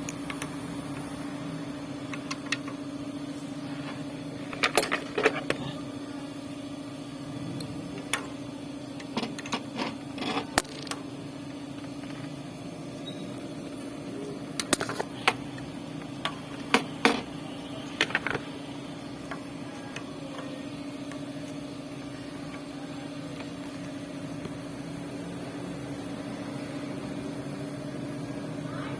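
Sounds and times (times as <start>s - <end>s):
steady mechanical hum: 0.0s - 28.9s.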